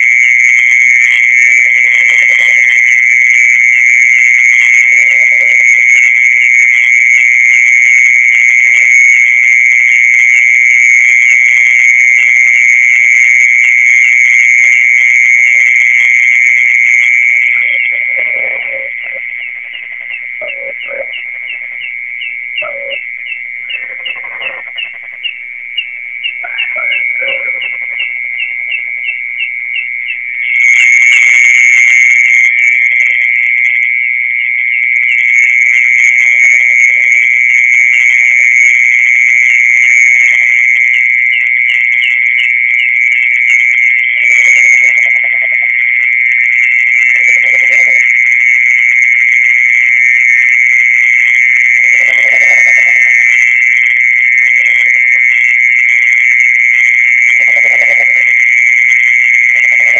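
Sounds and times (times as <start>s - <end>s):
mole cricket trilling: 0.0s - 59.9s.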